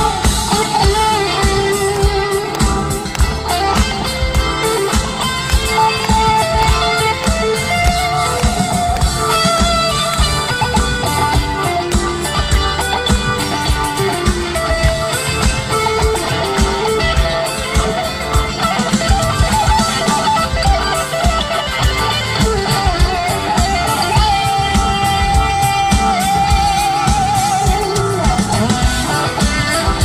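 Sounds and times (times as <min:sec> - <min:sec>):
lead electric guitar: 0:00.0 - 0:30.0
rock band playing live: 0:00.0 - 0:30.0.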